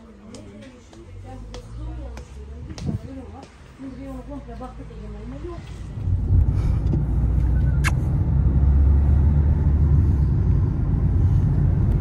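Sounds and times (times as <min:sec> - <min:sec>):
car road and engine rumble: 0:01.1 - 0:12.0.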